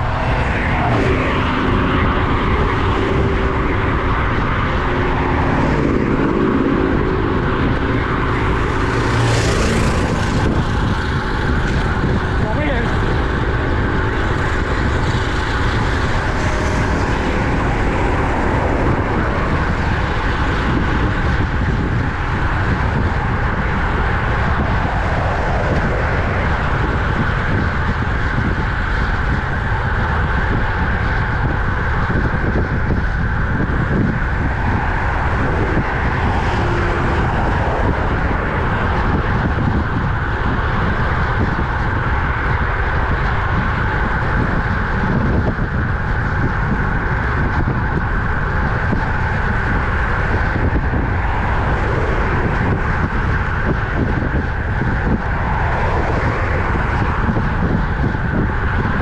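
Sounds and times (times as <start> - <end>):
motor traffic: 0.0 - 59.0
road noise: 0.0 - 59.0
wind on microphone: 0.0 - 59.0.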